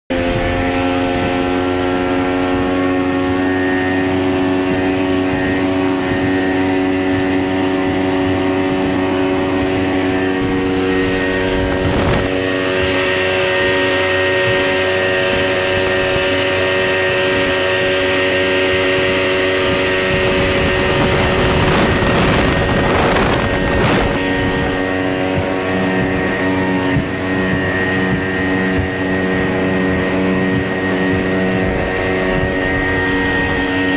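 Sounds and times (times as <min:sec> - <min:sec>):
outboard motors droning: 0:00.1 - 0:33.9
rush of water and wind: 0:00.1 - 0:33.9.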